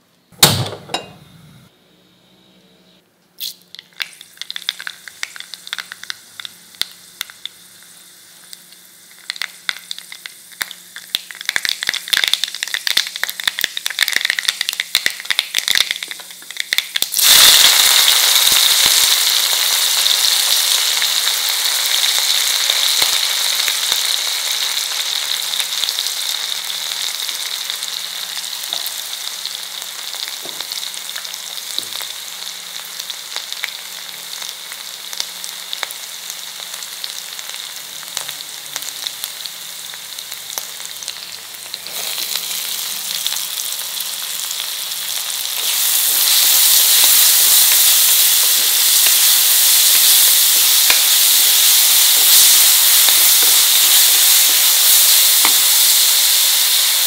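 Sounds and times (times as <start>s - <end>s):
chillies sizzling in hot oil: 3.4s - 57.0s
onions frying in oil: 3.4s - 57.0s.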